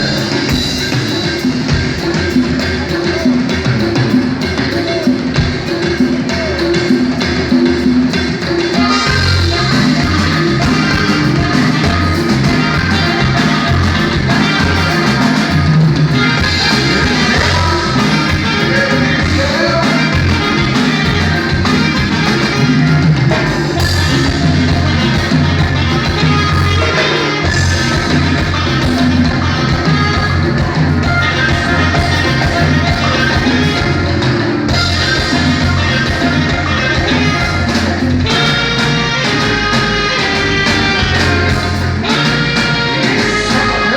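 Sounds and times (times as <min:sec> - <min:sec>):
band dance music: 0:00.0 - 0:43.9.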